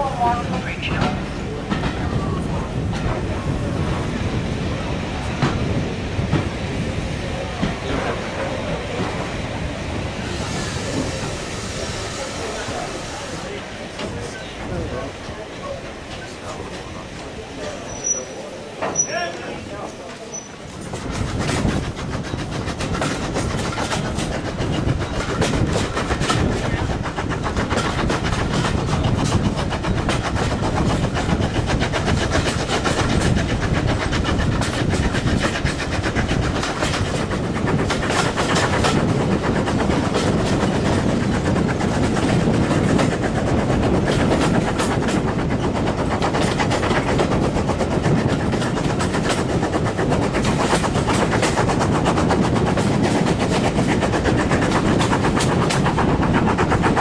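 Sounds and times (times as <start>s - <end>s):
train wheels clattering over rail joints: 0.2s - 57.0s.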